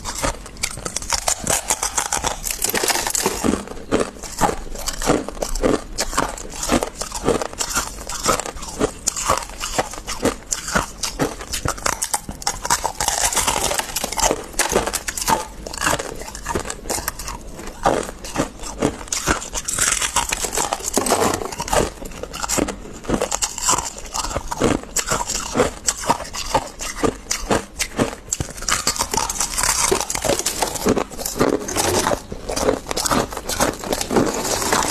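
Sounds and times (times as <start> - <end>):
icy frost crunching when chewed: 0.0 - 34.9.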